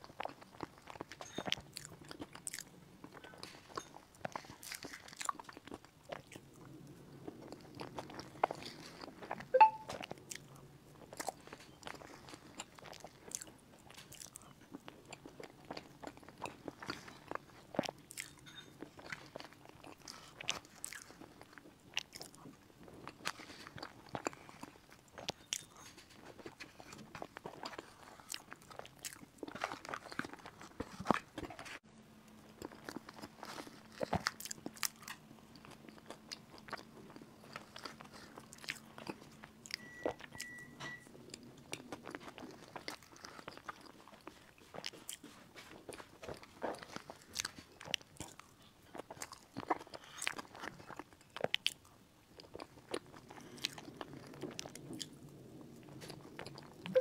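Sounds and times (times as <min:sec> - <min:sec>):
chewing with mouth clicks and crunches: 0:00.0 - 0:57.0.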